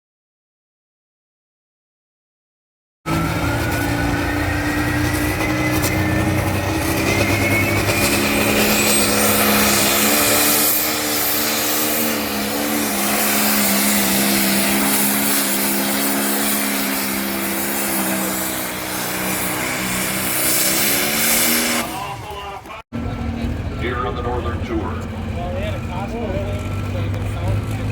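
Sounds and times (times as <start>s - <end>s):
tractor engine revving under load: 3.1s - 27.9s.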